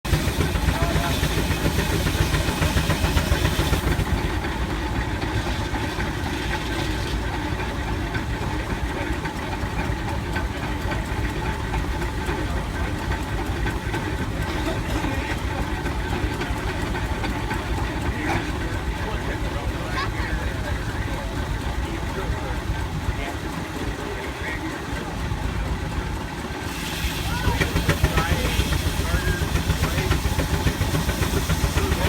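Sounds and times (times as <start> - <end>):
steam traction engine running: 0.0 - 32.0.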